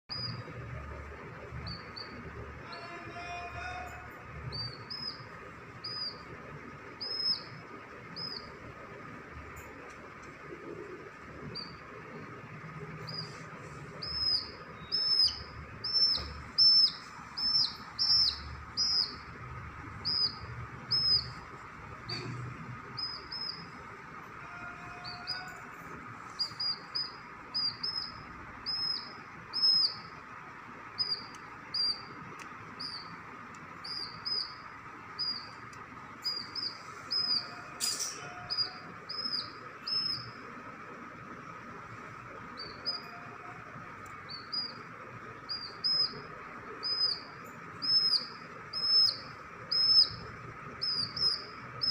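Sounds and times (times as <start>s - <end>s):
chick peeping: 0.1s - 8.6s, 10.6s - 11.9s, 13.0s - 22.2s, 22.9s - 23.8s, 24.4s - 30.1s, 31.0s - 40.5s, 42.4s - 51.9s.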